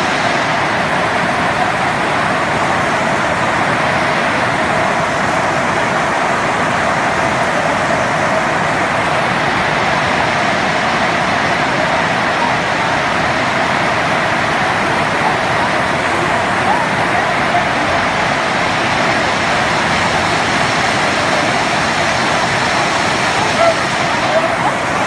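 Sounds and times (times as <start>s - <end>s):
heavy hail and rain falling: 0.0s - 25.0s.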